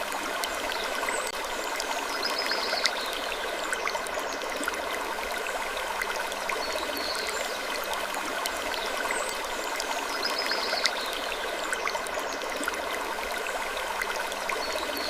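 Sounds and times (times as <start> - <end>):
trickling water: 0.0 - 15.0.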